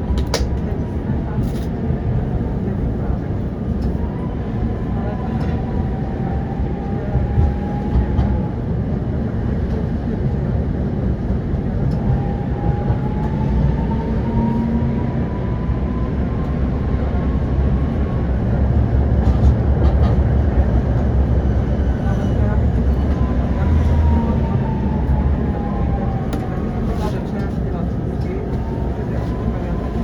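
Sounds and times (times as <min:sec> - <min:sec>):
tram wheels rumbling on track: 0:00.0 - 0:30.0.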